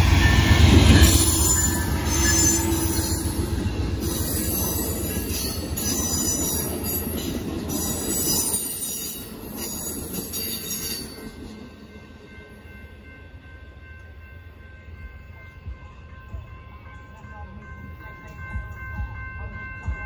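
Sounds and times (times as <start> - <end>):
high-pitched wheel-on-rail noise: 0.0 - 20.0
train cars rumbling: 0.0 - 20.0.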